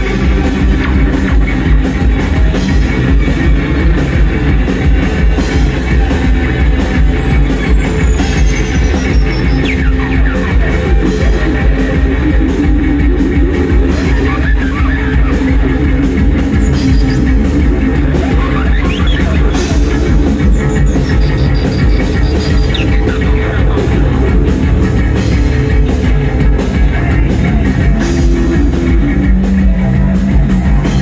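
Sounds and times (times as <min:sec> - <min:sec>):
band playing noise rock: 0:00.0 - 0:31.0.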